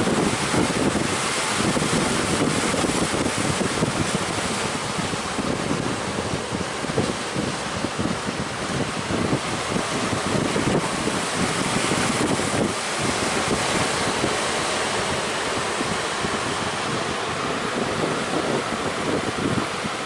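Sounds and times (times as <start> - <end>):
sea surf breaking: 0.0 - 20.0
wind buffeting microphone: 0.0 - 20.0.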